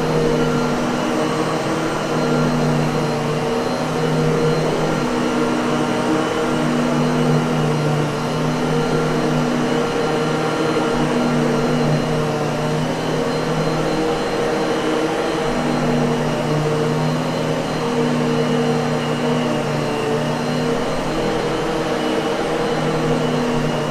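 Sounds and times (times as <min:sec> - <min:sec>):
vacuum cleaner running: 0:00.0 - 0:23.9.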